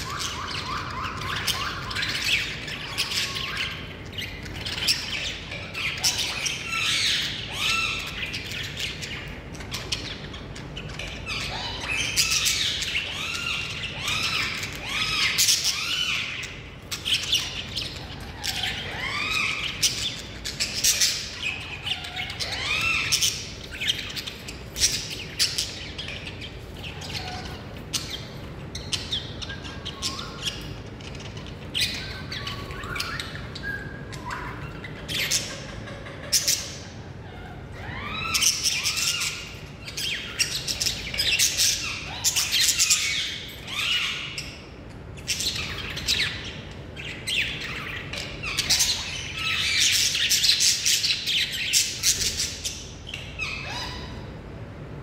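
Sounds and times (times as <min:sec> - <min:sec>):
parakeet chirping and squawking: 0:00.0 - 0:54.4.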